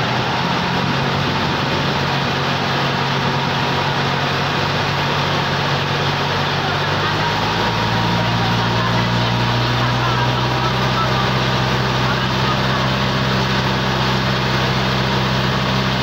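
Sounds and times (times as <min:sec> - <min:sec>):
boat engine running: 0:00.0 - 0:16.0
wind and water rushing: 0:00.0 - 0:16.0.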